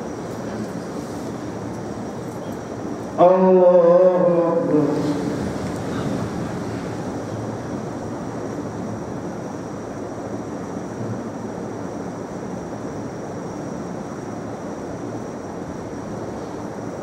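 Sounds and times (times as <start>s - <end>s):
faint high whine: 0.0s - 17.0s
rumble and hiss: 0.0s - 17.0s.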